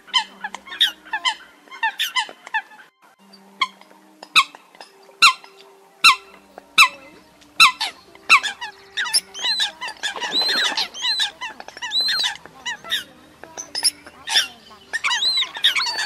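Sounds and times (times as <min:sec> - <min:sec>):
coot calls: 0:00.0 - 0:16.0
higher-pitched arched bird calls: 0:00.0 - 0:16.0.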